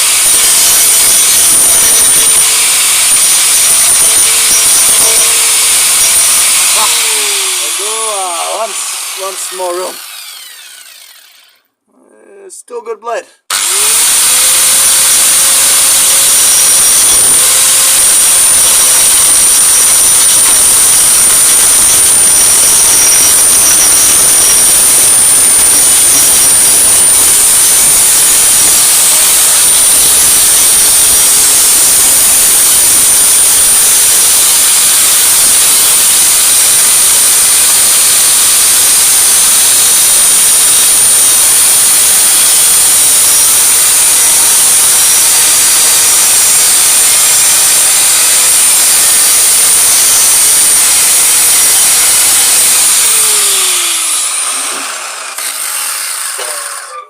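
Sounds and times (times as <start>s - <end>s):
angle grinder cutting metal pipe: 0.0s - 11.7s, 13.5s - 57.0s.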